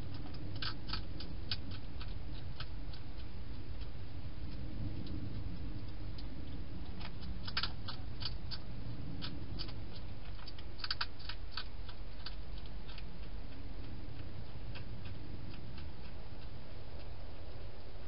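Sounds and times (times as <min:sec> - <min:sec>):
hedgehog crunching food: 0:00.0 - 0:18.0
steady low hiss: 0:00.0 - 0:18.0.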